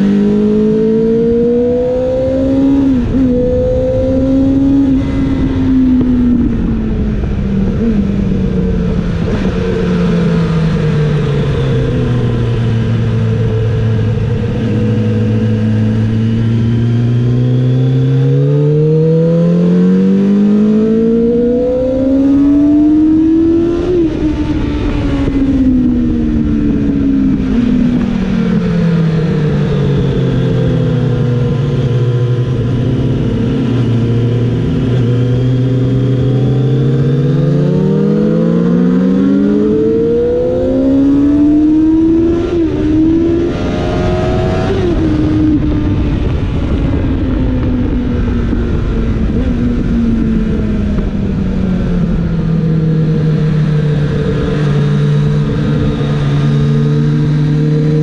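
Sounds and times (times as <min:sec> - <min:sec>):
wind rush: 0:00.0 - 0:18.1, 0:20.3 - 0:58.0
motorcycle engine revving: 0:00.0 - 0:58.0.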